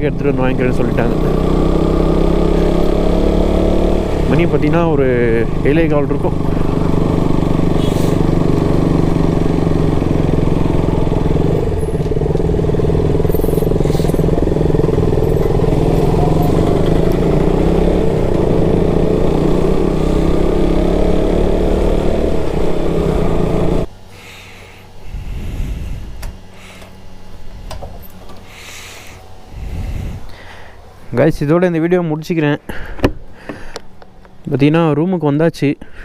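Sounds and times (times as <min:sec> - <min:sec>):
motorcycle engine cruising: 0:00.0 - 0:32.2.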